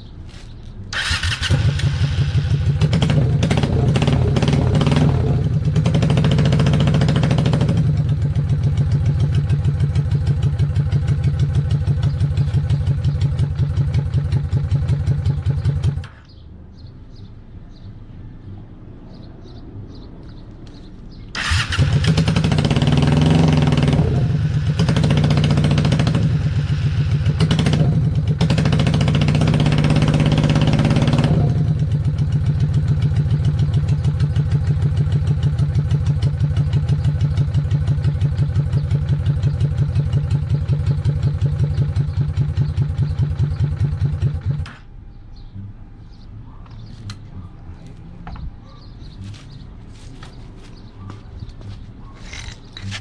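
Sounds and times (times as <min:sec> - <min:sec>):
motorcycle engine revving and idling: 0:00.3 - 0:16.4, 0:21.3 - 0:53.0.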